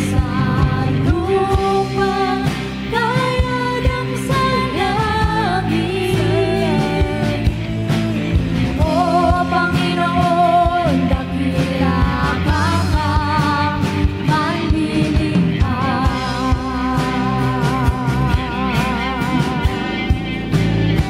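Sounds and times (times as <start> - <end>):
bass: 0.0 - 21.0
drums steady beat: 0.0 - 21.0.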